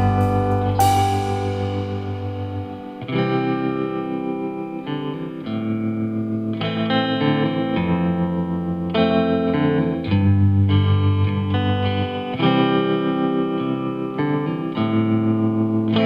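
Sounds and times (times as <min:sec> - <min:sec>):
distorted electric guitar music: 0:00.0 - 0:16.0.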